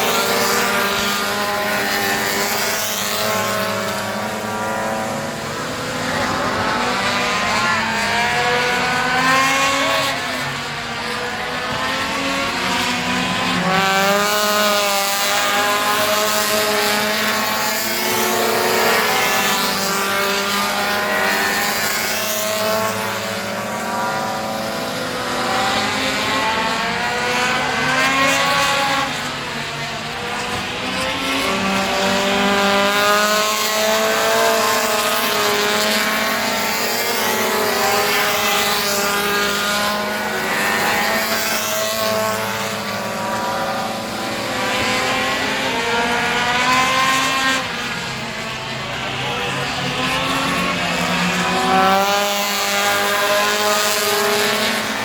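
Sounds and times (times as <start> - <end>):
race car engines racing: 0.0 - 55.0.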